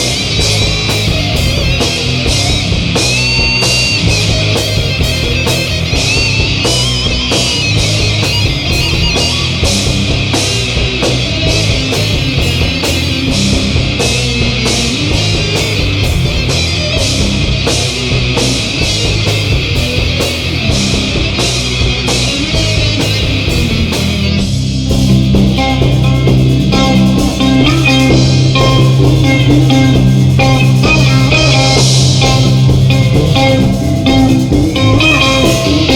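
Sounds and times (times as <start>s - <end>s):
drum kit: 0.0s - 35.9s
electric guitar: 0.0s - 35.9s.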